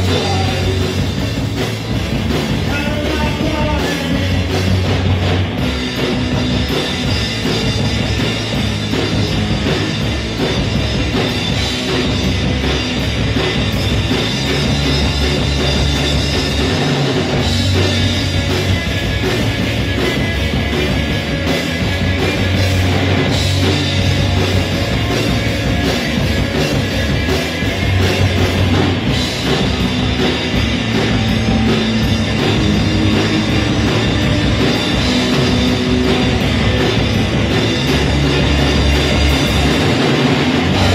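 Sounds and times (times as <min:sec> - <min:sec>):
drum kit: 0:00.0 - 0:40.9
electric guitars: 0:00.0 - 0:40.9.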